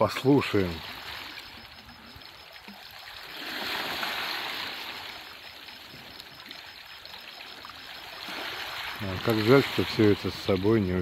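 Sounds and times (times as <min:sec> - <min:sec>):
small waves lapping on shore: 0:00.0 - 0:11.0.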